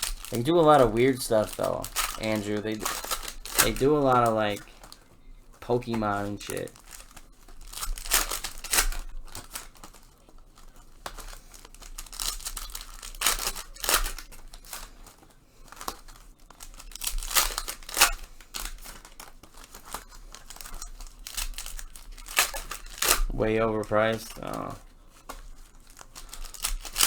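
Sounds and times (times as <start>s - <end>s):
wrappers torn and crinkled: 0.0s - 27.0s.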